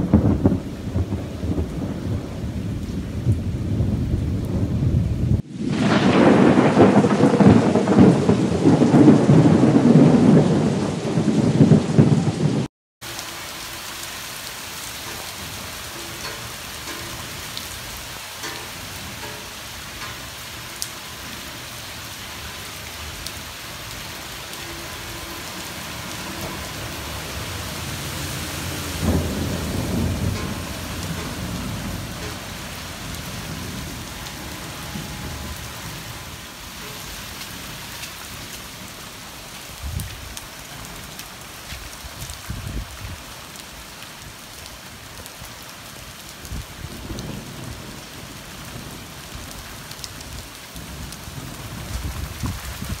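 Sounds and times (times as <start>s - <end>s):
thunder rumbling: 0.0s - 12.7s, 13.3s - 43.4s, 46.4s - 53.0s
rain on wet stone paving: 0.0s - 53.0s.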